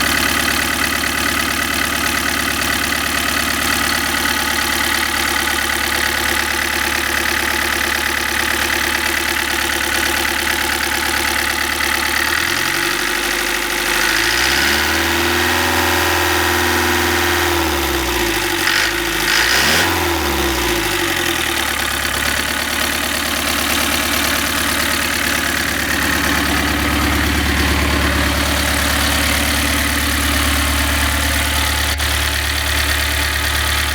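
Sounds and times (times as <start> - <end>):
diesel van engine idling and revving: 0.0 - 33.9.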